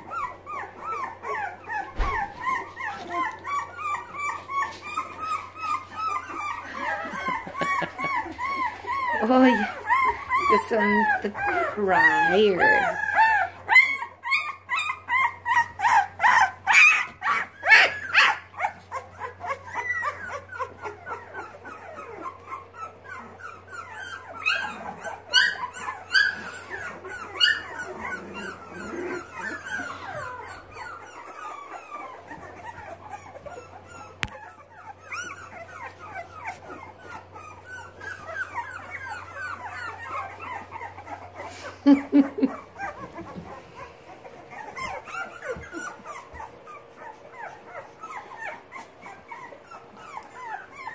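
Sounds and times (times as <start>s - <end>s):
puppies yelping and whimpering: 0.0s - 50.9s.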